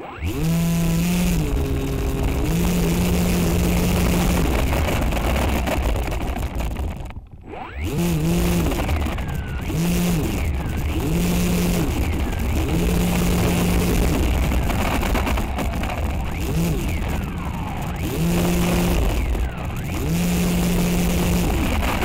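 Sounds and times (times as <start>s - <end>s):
drone motors buzzing: 0.0s - 22.0s.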